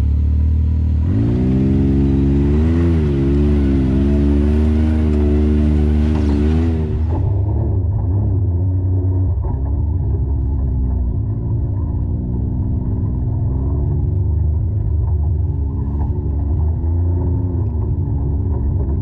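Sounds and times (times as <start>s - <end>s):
muffled engine running at low revs: 0.0s - 19.0s.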